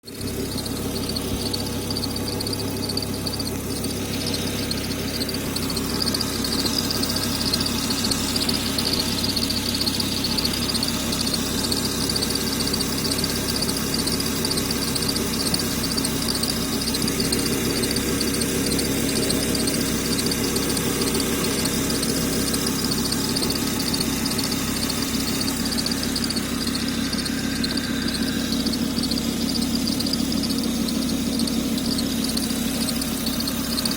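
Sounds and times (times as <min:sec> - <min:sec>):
bearing squealing: 0:00.0 - 0:33.9.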